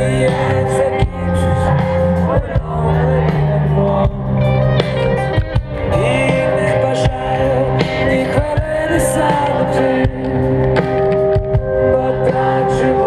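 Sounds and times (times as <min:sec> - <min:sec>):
live rock music: 0:00.0 - 0:13.0
man singing: 0:00.0 - 0:13.0.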